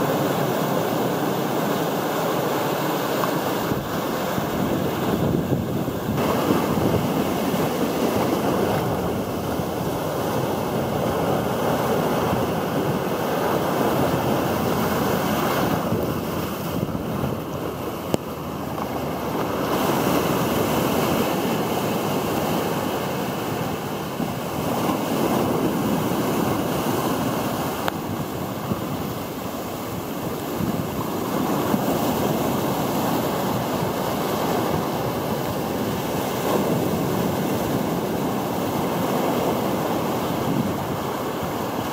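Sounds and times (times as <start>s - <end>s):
foam washing up sand: 0.0s - 41.9s
waves breaking close by: 0.0s - 41.9s.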